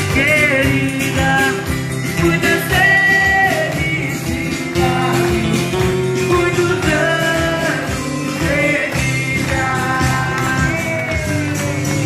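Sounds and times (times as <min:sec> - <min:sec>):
acoustic guitar: 0:00.0 - 0:12.0
people clapping along: 0:00.0 - 0:12.0
person singing: 0:00.0 - 0:12.0.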